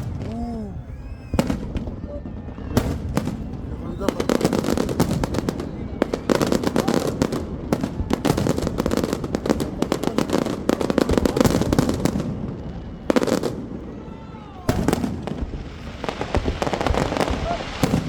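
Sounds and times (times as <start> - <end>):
fireworks crackling bangs: 0.0 - 18.0.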